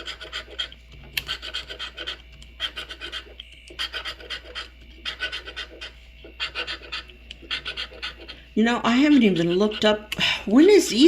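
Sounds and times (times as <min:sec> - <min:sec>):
lottery ticket scratching: 0:00.0 - 0:11.0.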